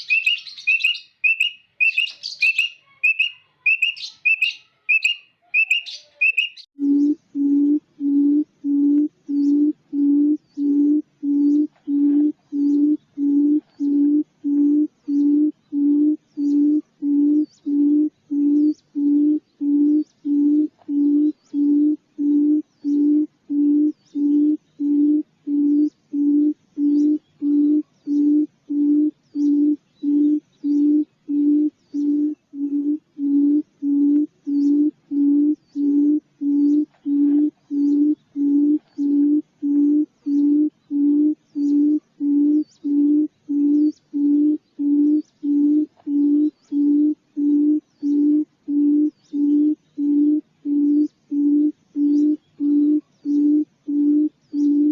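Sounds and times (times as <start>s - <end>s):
low hooting quail call: 0.0s - 54.9s.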